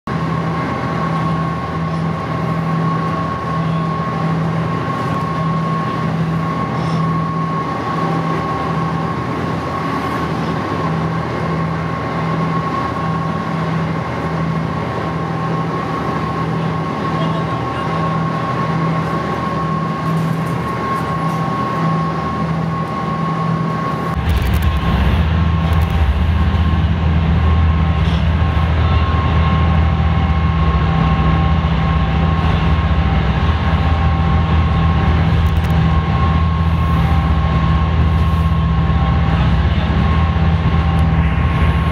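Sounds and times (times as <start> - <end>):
ferry engine droning: 0.1 - 41.9
steady higher whine: 0.1 - 41.9.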